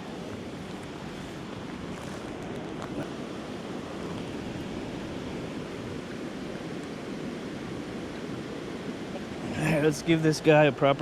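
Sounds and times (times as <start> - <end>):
creek water flowing over rocks: 0.0 - 11.0.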